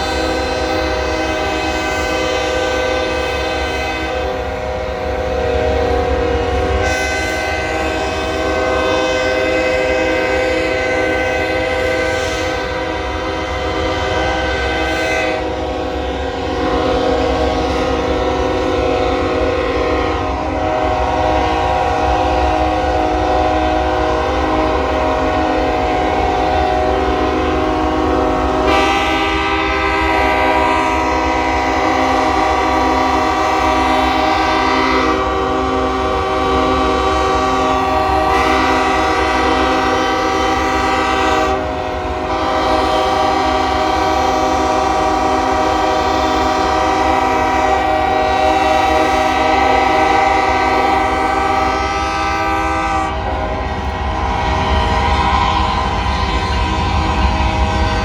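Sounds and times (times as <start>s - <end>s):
locomotive air horns blowing: 0.0s - 58.0s.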